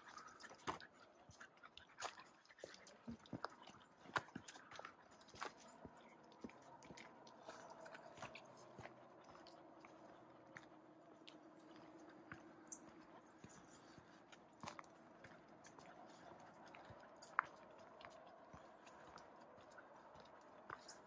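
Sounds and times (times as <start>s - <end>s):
footsteps on dirt trail: 2.0s - 21.0s.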